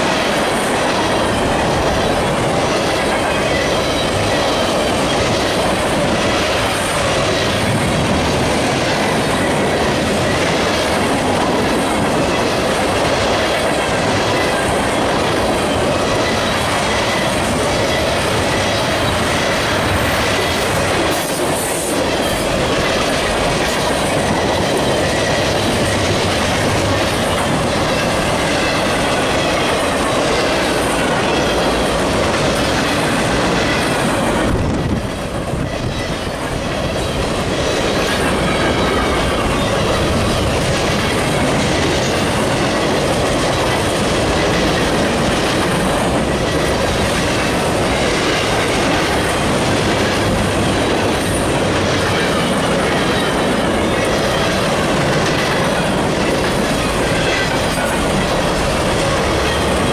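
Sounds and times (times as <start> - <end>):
freight train rumbling past: 0.0 - 59.9
wheels clacking over rail joints: 0.0 - 59.9.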